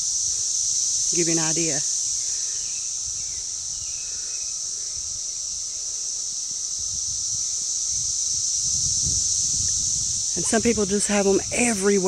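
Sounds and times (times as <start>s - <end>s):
distant cicadas droning: 0.0s - 12.0s.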